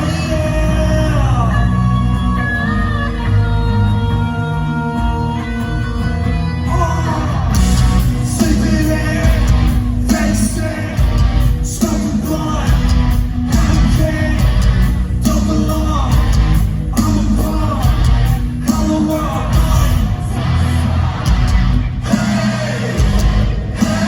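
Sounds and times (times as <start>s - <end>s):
loud live rock music: 0.0s - 24.0s.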